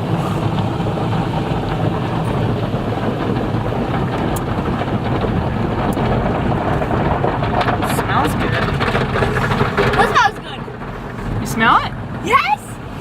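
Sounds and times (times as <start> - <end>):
low rumble: 0.0 - 13.0
water rushing and brushes spinning: 0.0 - 13.0.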